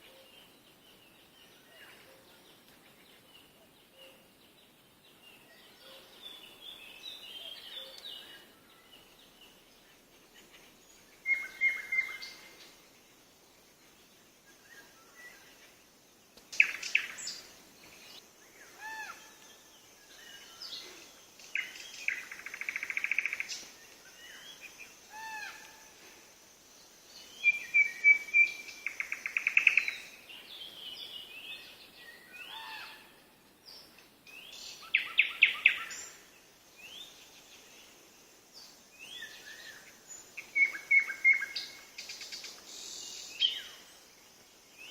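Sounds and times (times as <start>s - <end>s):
faint steady hiss: 0.0s - 44.9s
songbirds singing: 0.0s - 44.9s.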